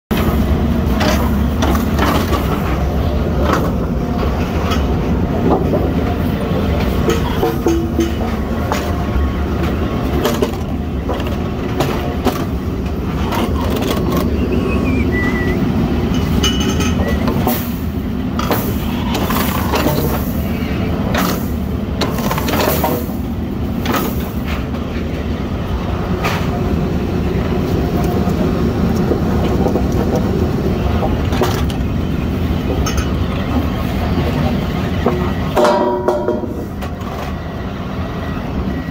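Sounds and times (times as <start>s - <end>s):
machine rumbling: 0.1s - 38.9s.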